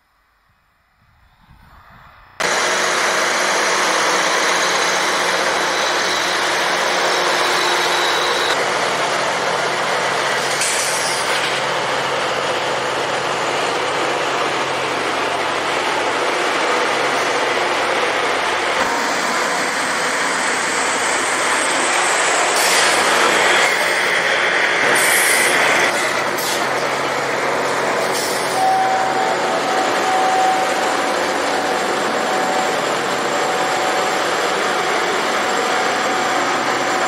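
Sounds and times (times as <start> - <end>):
engine drone: 0.9 - 37.0.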